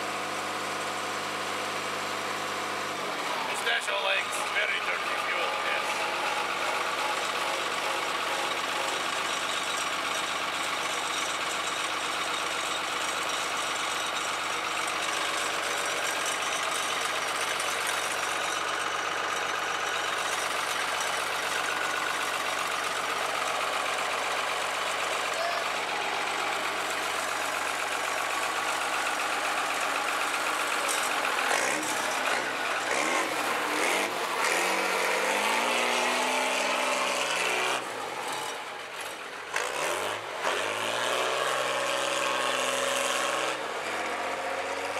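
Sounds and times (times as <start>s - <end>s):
diesel engine idling and revving: 0.0s - 44.9s.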